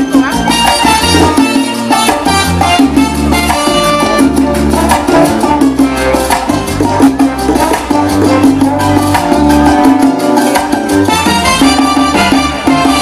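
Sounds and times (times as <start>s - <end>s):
salsa music over a sound system: 0.0s - 13.0s.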